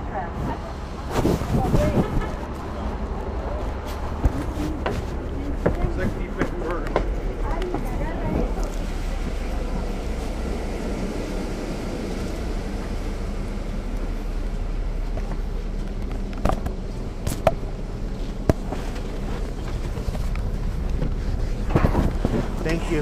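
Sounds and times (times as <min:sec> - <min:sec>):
air conditioning running: 0:00.0 - 0:23.0
bus diesel engine running: 0:00.0 - 0:23.0.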